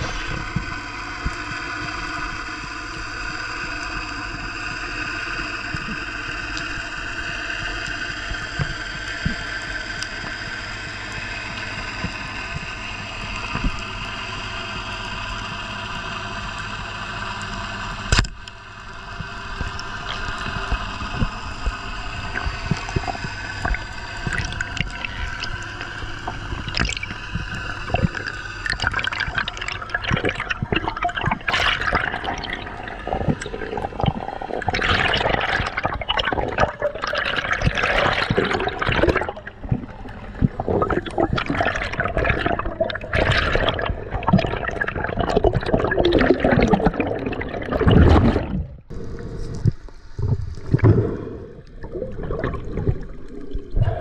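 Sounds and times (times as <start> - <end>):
water gurgling and sloshing: 0.0 - 54.0.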